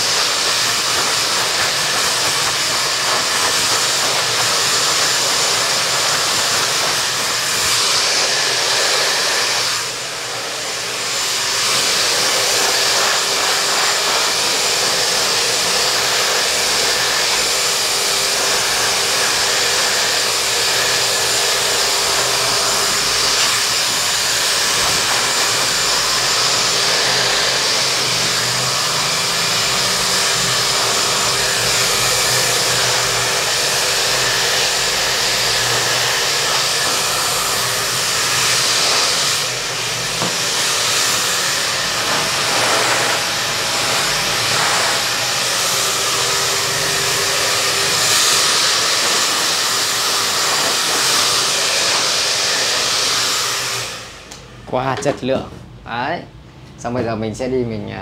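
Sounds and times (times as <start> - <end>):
hair dryer blowing: 0.0 - 57.4.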